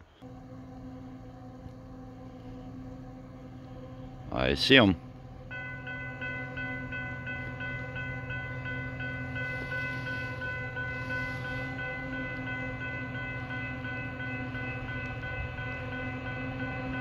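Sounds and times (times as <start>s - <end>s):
steady low hum: 0.0s - 17.0s
crossing bell ringing: 0.3s - 17.0s.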